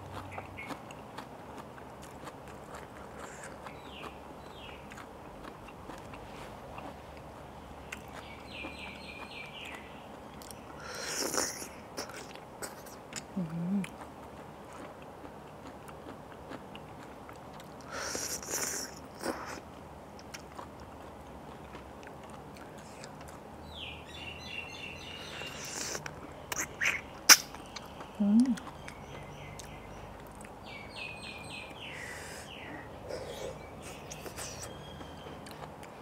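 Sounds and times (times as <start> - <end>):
chewing and biting food: 0.0 - 23.6, 25.0 - 30.7, 33.1 - 36.0.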